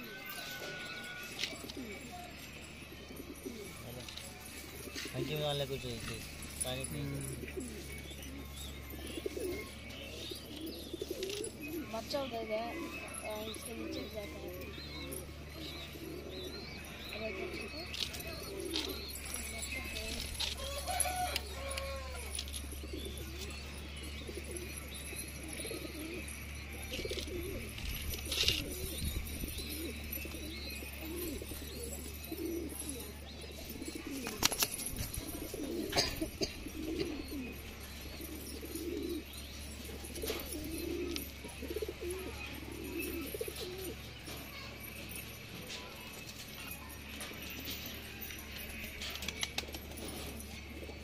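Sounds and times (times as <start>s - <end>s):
pigeon cooing: 0.0s - 51.0s.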